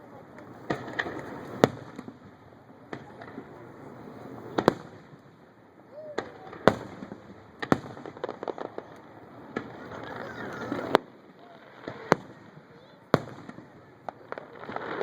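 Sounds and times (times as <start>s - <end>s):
fireworks bangs: 0.3s - 5.2s, 5.8s - 15.0s.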